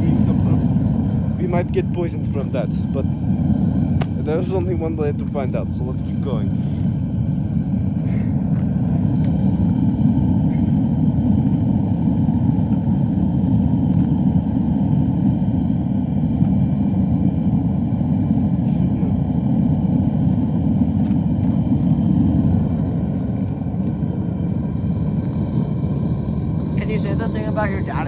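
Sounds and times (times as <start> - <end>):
gas forge burner rushing: 0.0 - 28.0.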